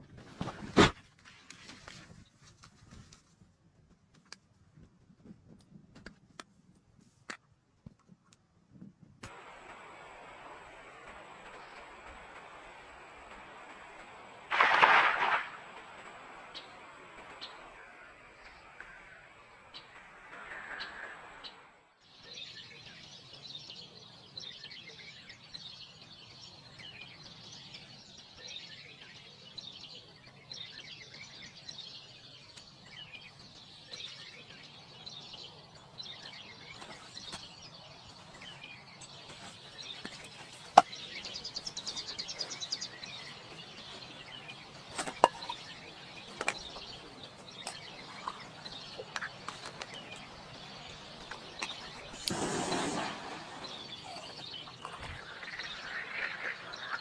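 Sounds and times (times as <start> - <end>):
forest birds chirping: 9.3 - 57.0.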